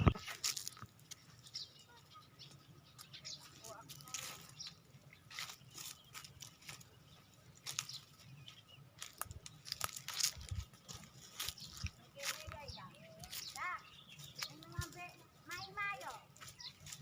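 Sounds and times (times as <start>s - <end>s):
goats chewing leaves and twigs: 0.0s - 17.0s.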